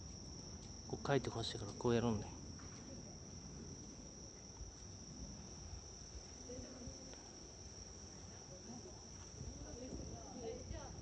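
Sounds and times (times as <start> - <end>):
crickets singing: 0.0 - 11.0.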